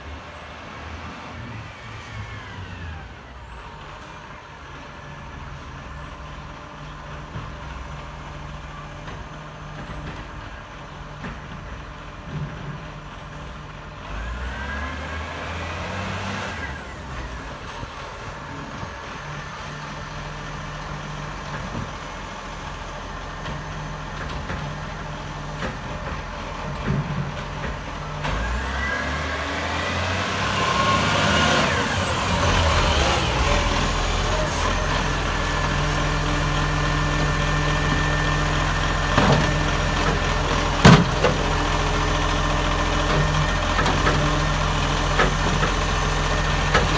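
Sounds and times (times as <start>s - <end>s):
garbage truck engine running: 2.7s - 46.9s.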